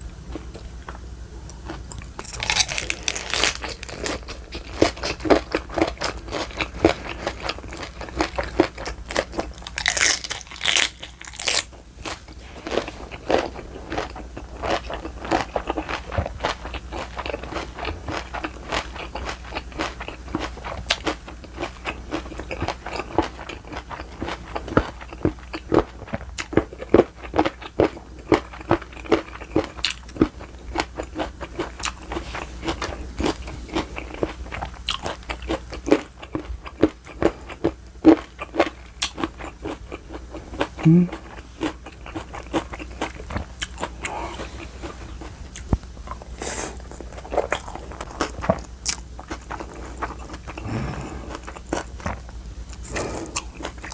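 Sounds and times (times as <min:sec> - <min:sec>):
close chewing and crunching: 0:00.0 - 0:53.9.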